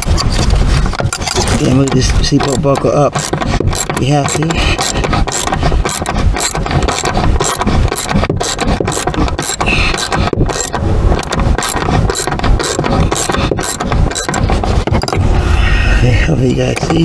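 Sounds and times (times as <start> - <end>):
ratchet wrench clicking: 1.2 - 15.2.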